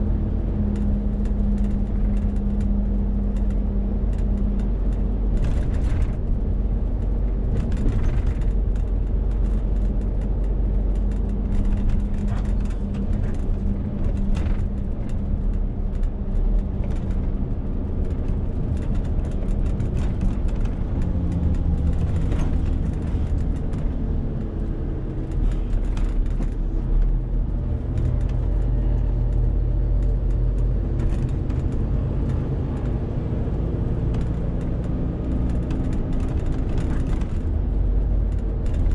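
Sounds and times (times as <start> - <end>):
diesel truck engine drone: 0.0 - 38.9
road noise: 0.0 - 38.9.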